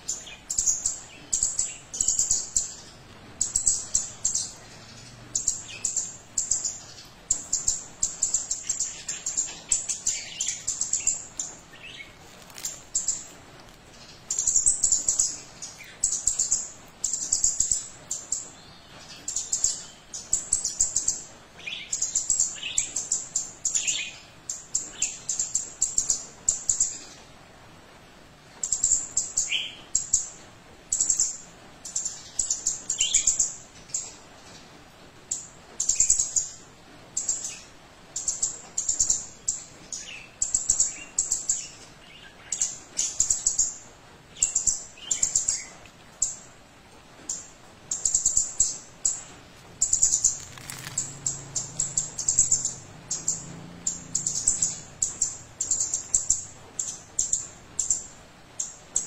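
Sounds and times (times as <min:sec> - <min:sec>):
songbird chirping song: 0:00.0 - 0:59.0.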